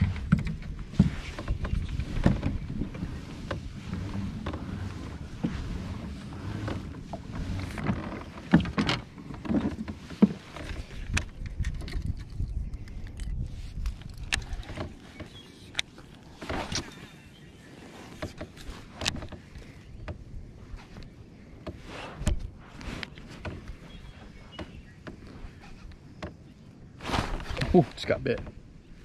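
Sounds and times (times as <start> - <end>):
clicks and knocks of fishing gear: 0.0 - 17.2, 17.8 - 26.4.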